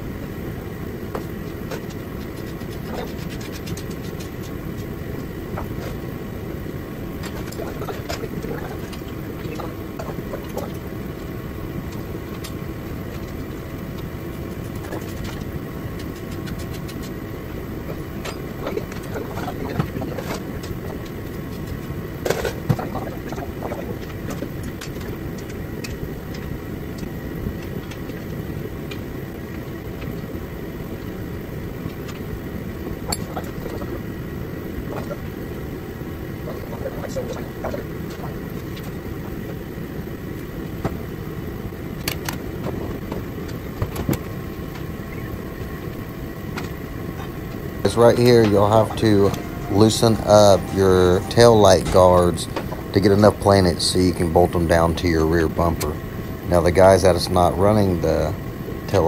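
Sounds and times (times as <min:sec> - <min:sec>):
mechanical hum and rumble: 0:00.0 - 0:59.0.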